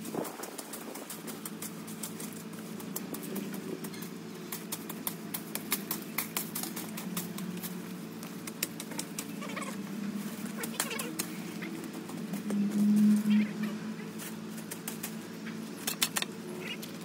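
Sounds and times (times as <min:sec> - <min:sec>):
steady low hum: 0:00.0 - 0:17.0
tools raking dry leaves: 0:00.0 - 0:17.0.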